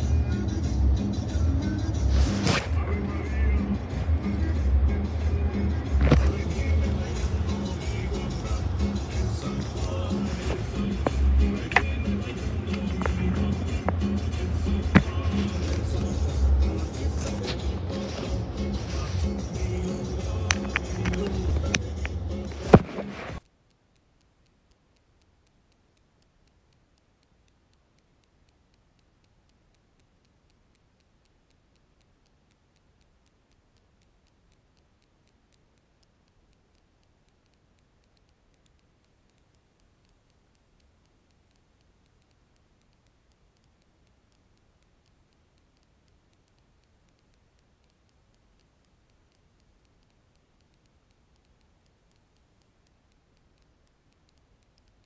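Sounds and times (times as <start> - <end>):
fast regular ticking: 0.0 - 55.0.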